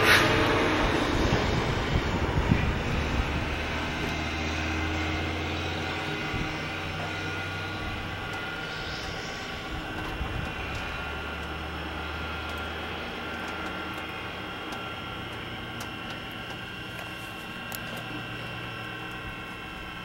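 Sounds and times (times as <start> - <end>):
propeller plane engine droning: 0.0 - 20.0
whining engine tones: 0.0 - 20.0.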